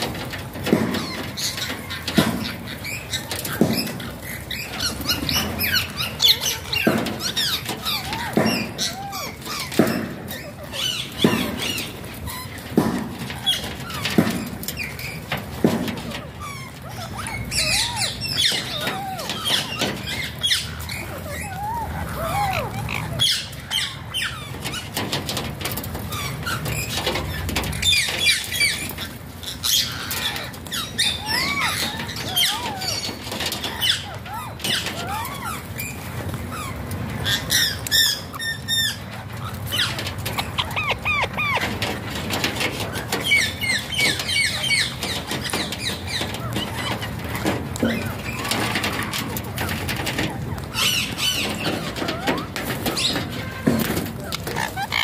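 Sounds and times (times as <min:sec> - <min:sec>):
harsh bird calls: 0:00.0 - 0:55.0
parakeets chattering and squawking: 0:00.0 - 0:55.0.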